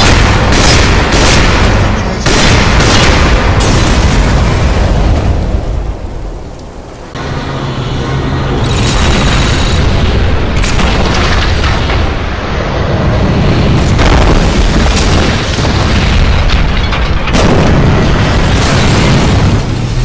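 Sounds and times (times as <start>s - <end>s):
cinematic explosions and booms: 0.0s - 7.2s, 8.6s - 20.0s.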